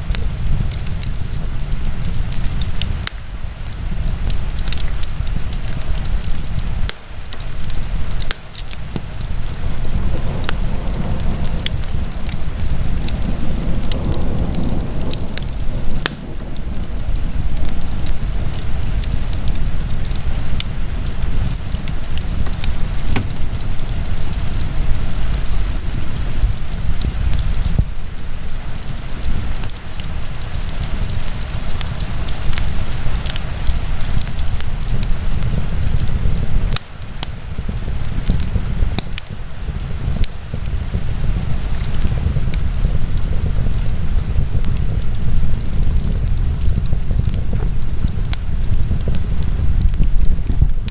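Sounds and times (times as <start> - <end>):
fire crackling and popping: 0.0 - 50.9
fire flames rushing: 0.0 - 50.9.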